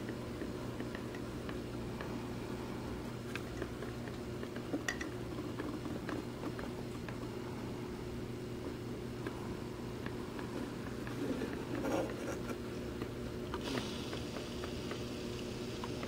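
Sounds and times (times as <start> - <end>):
aquarium hum: 0.0 - 16.0.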